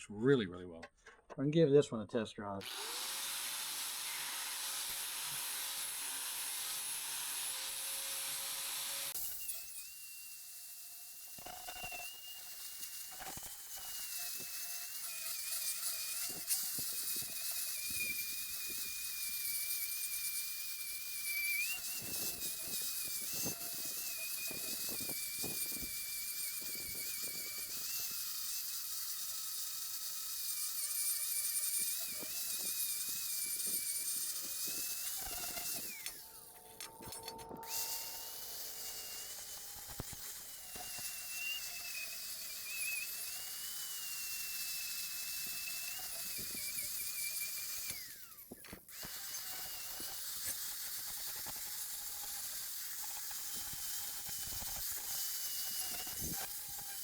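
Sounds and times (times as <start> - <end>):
angle grinder whine: 2.6 - 50.6.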